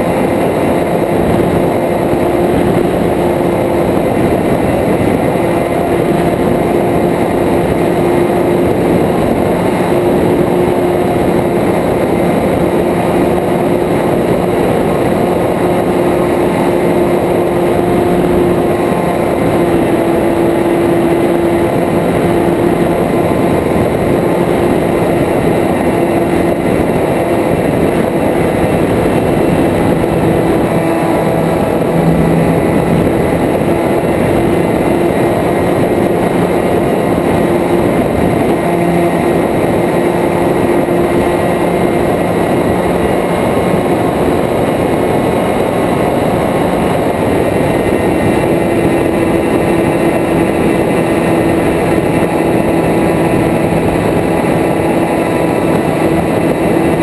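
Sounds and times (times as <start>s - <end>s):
propeller aircraft engine: 0.0s - 57.0s
wind rushing: 0.0s - 57.0s.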